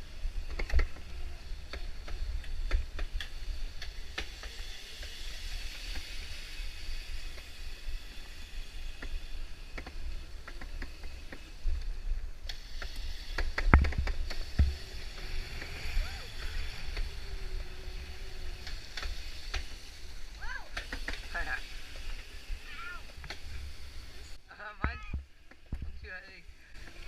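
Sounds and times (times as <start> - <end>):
electric dirt bike ride rumble: 0.0 - 27.0.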